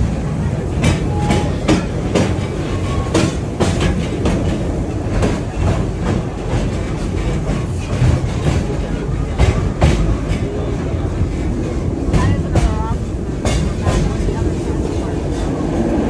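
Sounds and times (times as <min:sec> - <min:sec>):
train carriage low rumble: 0:00.0 - 0:16.0
wheels clacking over rail joints: 0:00.0 - 0:16.0.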